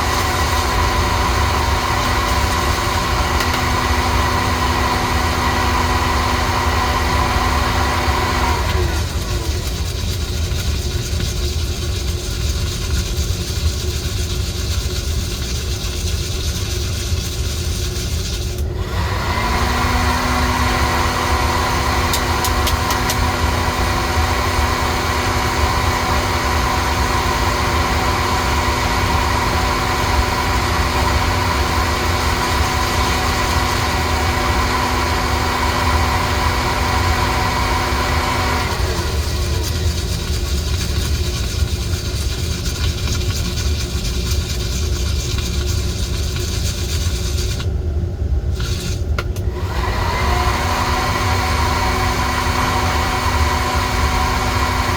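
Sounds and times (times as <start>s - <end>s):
coffee roaster rumbling: 0.0s - 54.9s.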